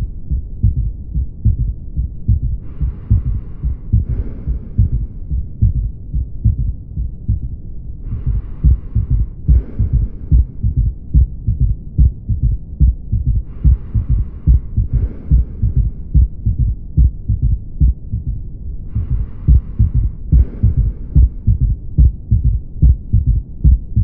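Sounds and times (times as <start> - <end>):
heartbeat through stethoscope: 0.0 - 24.0.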